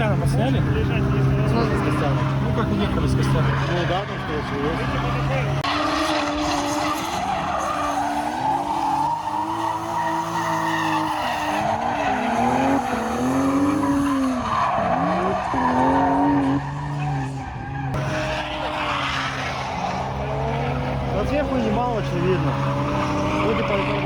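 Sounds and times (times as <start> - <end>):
car engine revving: 0.0 - 24.0
tyres squealing: 0.0 - 24.0.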